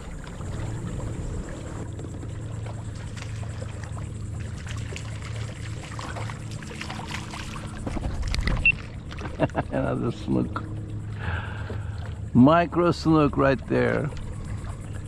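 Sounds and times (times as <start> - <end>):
steady low hum: 0.0 - 15.0
water splashing and trickling: 0.0 - 15.0.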